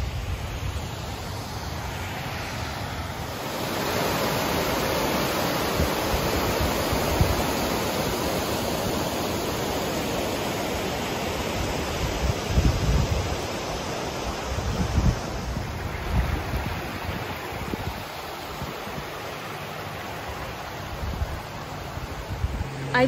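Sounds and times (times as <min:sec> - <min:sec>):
river water rushing over rocks: 0:00.1 - 0:23.0.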